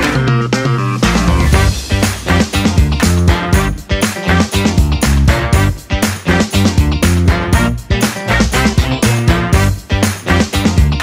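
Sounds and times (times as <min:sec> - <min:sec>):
drum kit: 0:00.0 - 0:11.0
heavy funky bass notes: 0:00.0 - 0:11.0.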